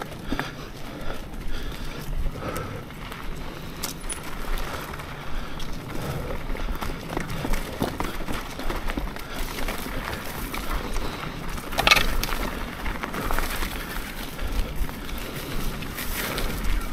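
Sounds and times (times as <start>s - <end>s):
bike rattles and clicks: 0.0s - 16.9s
tyre and ground noise: 0.0s - 16.9s.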